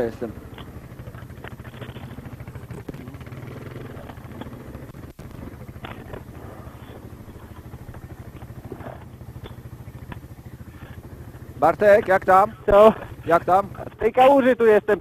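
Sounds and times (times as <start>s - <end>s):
atv engine idling: 0.0s - 15.0s.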